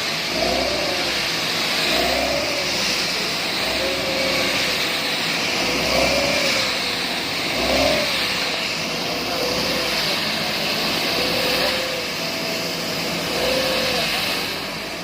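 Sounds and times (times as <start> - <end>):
construction machine engine running: 0.0 - 15.0.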